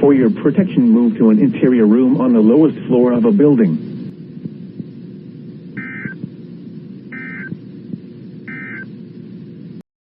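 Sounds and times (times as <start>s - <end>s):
low broadcast hum: 0.0s - 9.8s.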